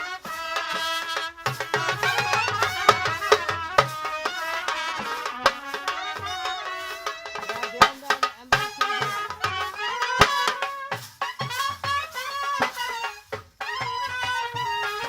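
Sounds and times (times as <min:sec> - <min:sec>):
hand drum strokes: 0:00.0 - 0:15.0
wavering folk melody: 0:00.0 - 0:15.0
sharp drum hits: 0:00.6 - 0:14.8.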